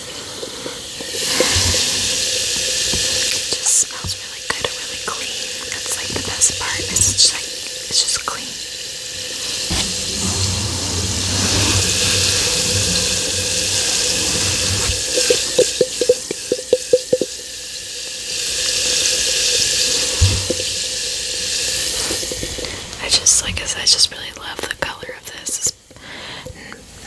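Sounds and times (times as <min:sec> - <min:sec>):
bath bomb fizzing: 0:00.0 - 0:23.9.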